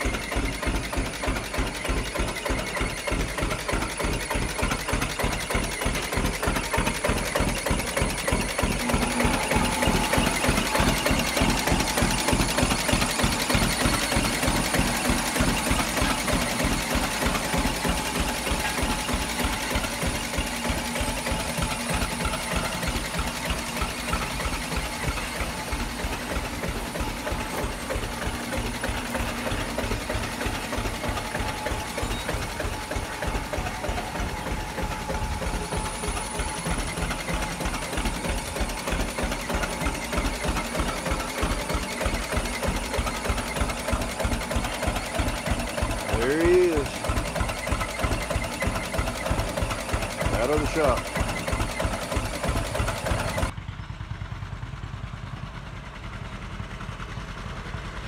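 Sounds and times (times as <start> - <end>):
two-cylinder engine idling: 0.0 - 58.0.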